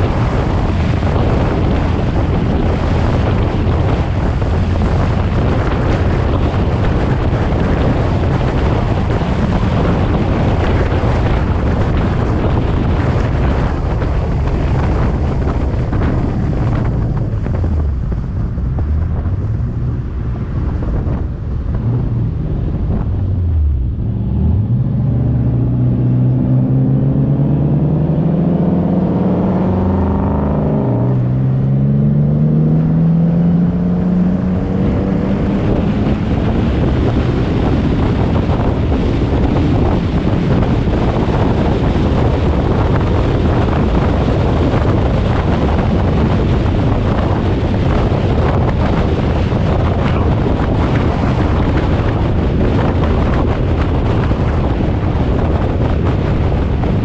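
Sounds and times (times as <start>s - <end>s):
car engine accelerating hard: 0.0s - 57.0s
engine and wind rush: 0.0s - 57.0s.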